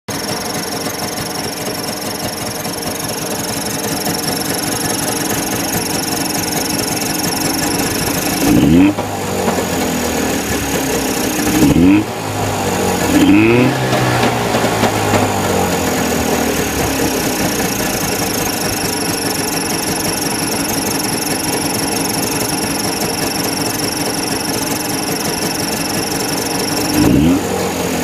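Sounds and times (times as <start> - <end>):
distributor squeaking: 0.1 - 27.4
small engine running: 0.1 - 28.0
throttle blips: 0.6 - 27.5.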